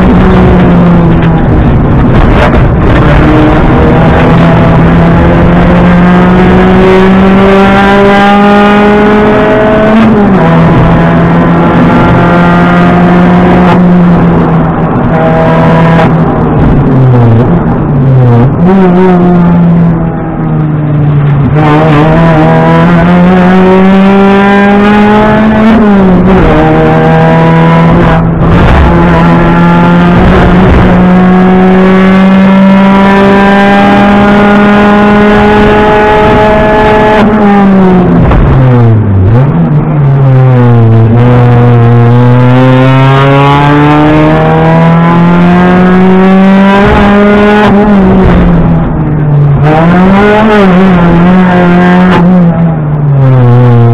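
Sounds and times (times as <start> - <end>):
rally car engine at high revs: 0.0 - 53.9.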